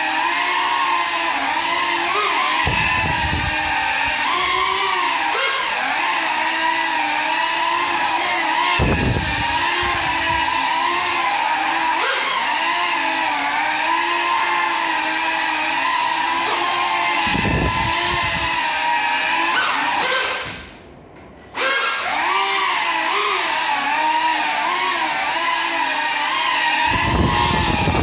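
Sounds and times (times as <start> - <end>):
quadcopter motor whine: 0.0 - 20.7, 21.6 - 28.0.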